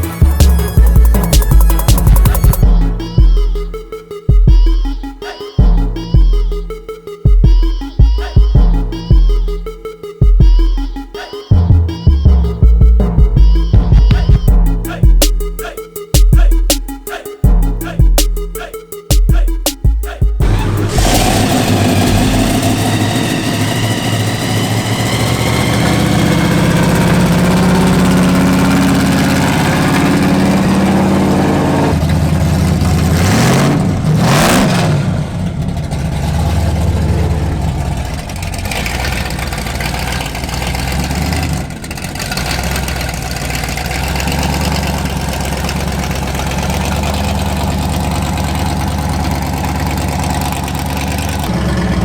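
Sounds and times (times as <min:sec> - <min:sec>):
car engines idling and revving: 0:00.0 - 0:04.9, 0:11.6 - 0:52.0.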